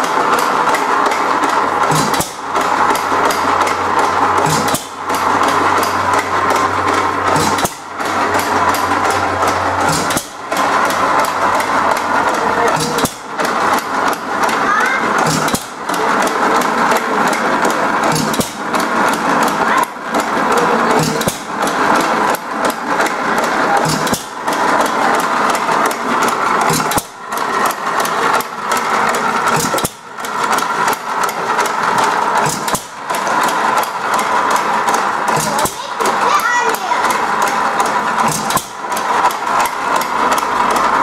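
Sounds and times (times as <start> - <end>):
hit-and-miss gas engine clattering: 0.0 - 41.0.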